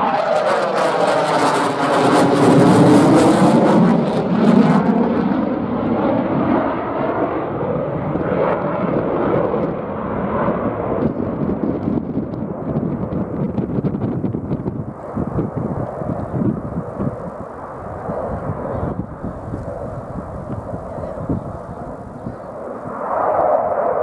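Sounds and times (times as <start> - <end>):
jet flying past: 0.0 - 24.0.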